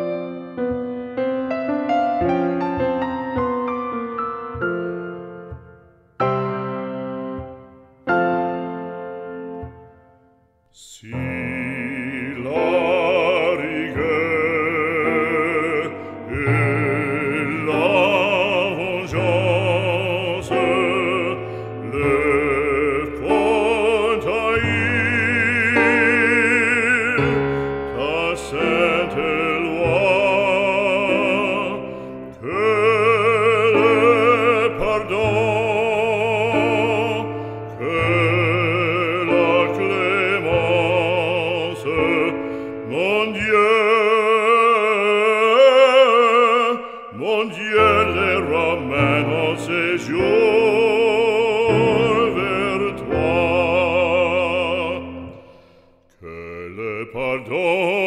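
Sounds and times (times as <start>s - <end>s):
sustained musical accompaniment: 0.0s - 46.5s
operatic solo singing: 10.6s - 58.0s.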